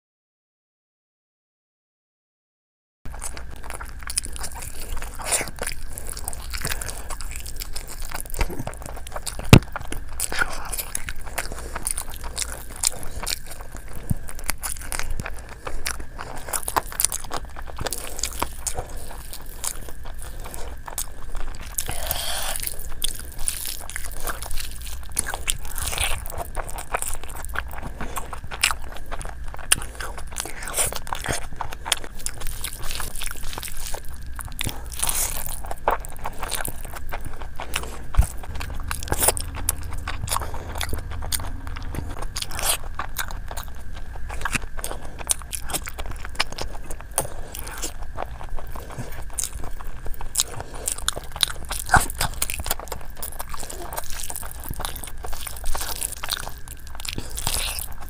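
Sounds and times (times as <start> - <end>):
mouth chewing food: 3.1 - 58.0.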